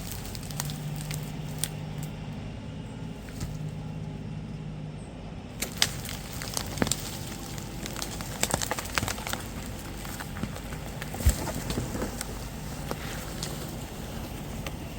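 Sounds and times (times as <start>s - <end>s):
twigs crackling and snapping: 0.0s - 4.6s, 5.5s - 14.9s
tractor engine running: 0.0s - 14.9s.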